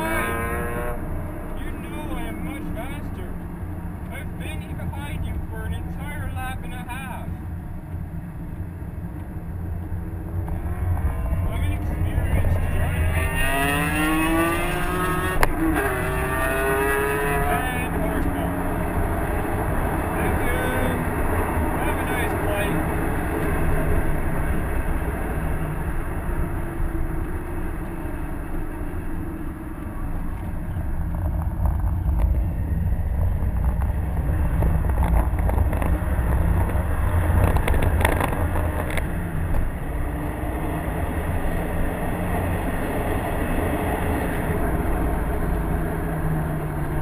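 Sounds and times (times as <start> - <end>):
car engine under way: 0.0 - 47.0
road and tyre noise: 0.0 - 47.0.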